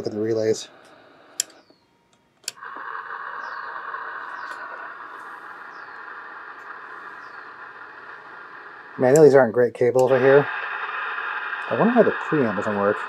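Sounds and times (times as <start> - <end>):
radio static hiss: 0.0 - 1.7, 2.4 - 13.0
radio click: 0.7 - 13.0.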